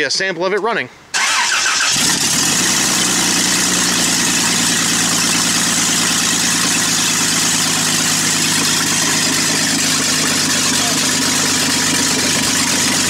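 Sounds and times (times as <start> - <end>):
loud engine idling: 1.2 - 13.0.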